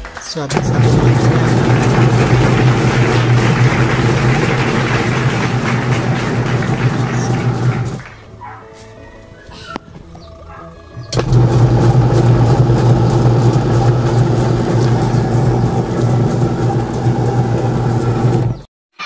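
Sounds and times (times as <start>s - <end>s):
washing machine spin motor humming: 0.5s - 8.1s, 10.4s - 18.7s.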